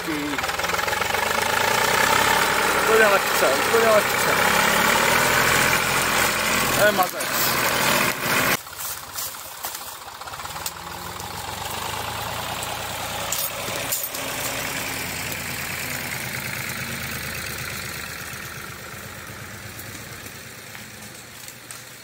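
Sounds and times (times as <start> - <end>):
tractor diesel engine idling: 0.0 - 21.5.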